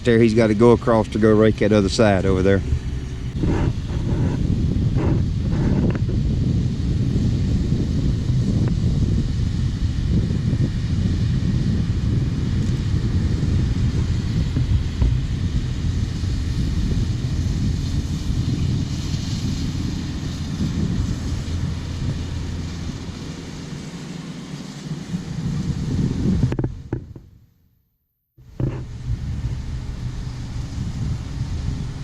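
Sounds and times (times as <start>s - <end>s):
low engine rumble: 0.0s - 27.4s, 28.4s - 32.0s
wind on microphone: 0.0s - 27.4s, 28.4s - 32.0s.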